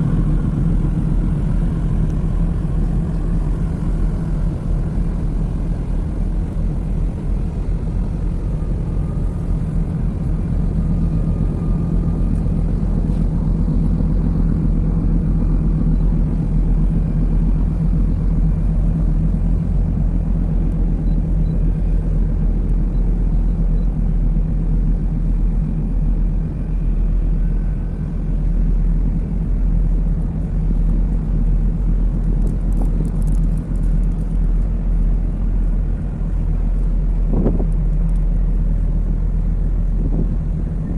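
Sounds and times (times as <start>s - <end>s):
ship machinery rumble and drone: 0.0s - 40.9s.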